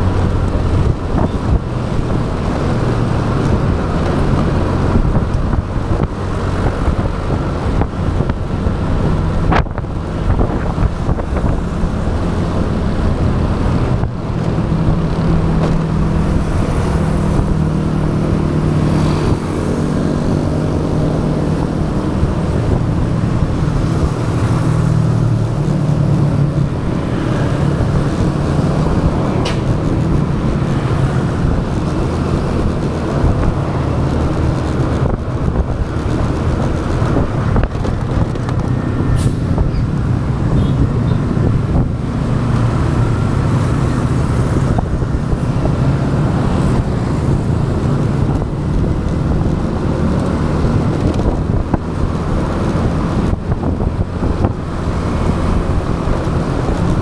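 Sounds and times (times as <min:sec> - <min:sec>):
motorbike engine revving: 0:00.0 - 0:57.0
road and traffic noise: 0:00.0 - 0:57.0.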